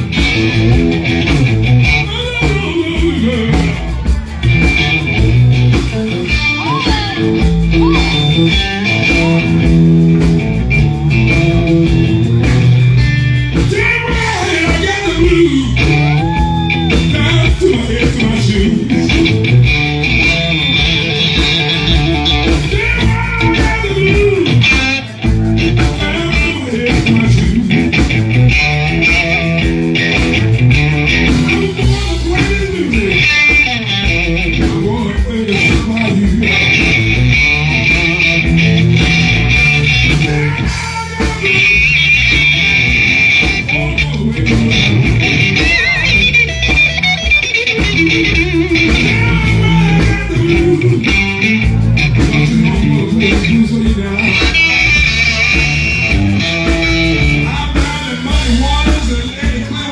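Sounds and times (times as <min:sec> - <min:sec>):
blues guitar music: 0:00.0 - 0:59.9.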